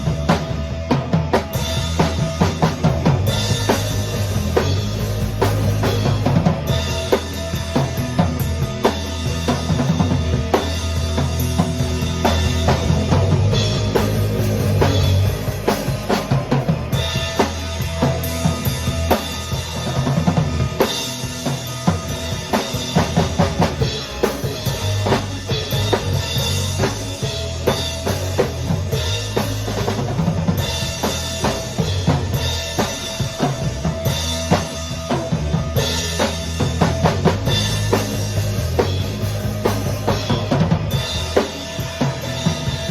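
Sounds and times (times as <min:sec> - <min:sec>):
band playing: 0:00.0 - 0:42.9
drum kit beat: 0:00.0 - 0:42.9.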